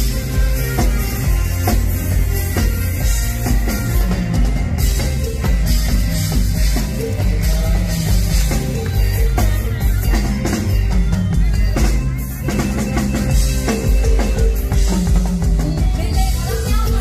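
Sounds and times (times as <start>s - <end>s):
drum kit beat: 0.0s - 17.0s
heavy bass line: 0.0s - 17.0s
live band playing: 0.0s - 17.0s.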